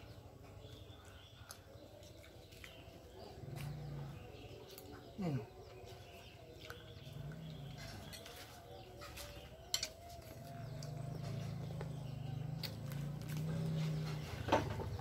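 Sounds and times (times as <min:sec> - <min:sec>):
chewing: 0:00.6 - 0:15.0.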